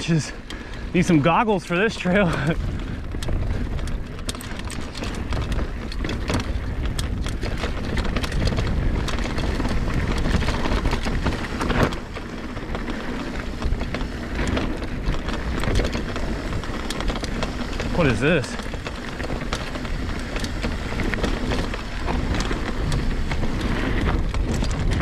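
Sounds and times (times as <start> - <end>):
bike clicks and rattles: 0.0 - 25.0
mountain bike rumbling over rocks: 0.0 - 25.0.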